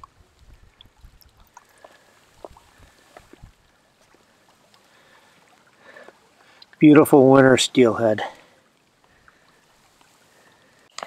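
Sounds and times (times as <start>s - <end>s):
creek water trickling: 0.0s - 11.0s
small splashes and drips: 0.0s - 11.0s.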